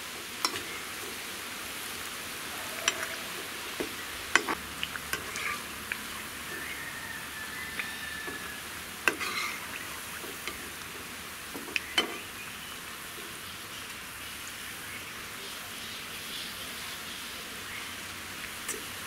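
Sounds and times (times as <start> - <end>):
oil sizzling and crackling: 0.0 - 19.0.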